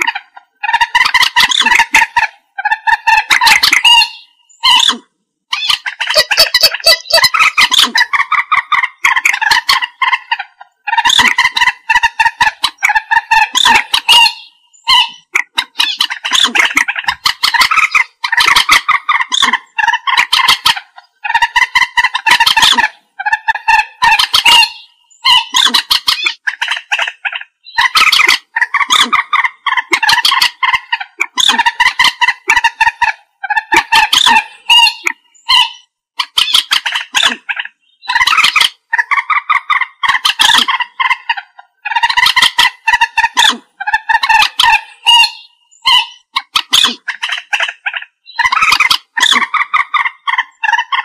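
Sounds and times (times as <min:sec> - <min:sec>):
moorhen calling: 0:00.0 - 0:51.0.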